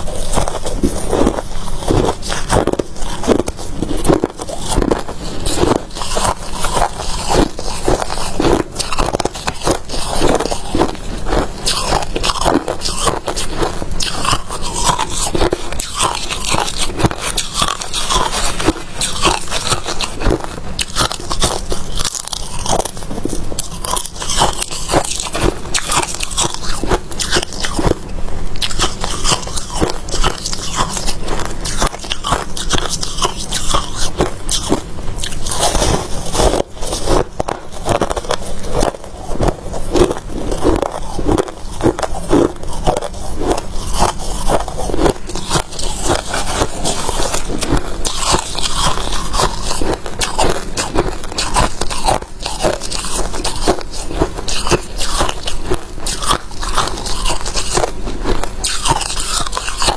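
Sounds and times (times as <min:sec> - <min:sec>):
person chewing crunchy frost: 0:00.0 - 0:59.9.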